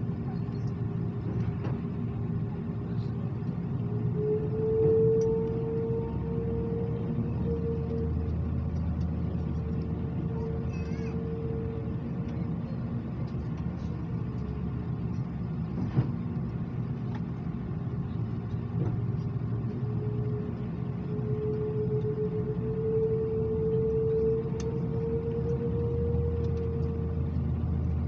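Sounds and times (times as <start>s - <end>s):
cabin hum and rumble: 0.0s - 28.0s
constant tone: 0.0s - 28.0s.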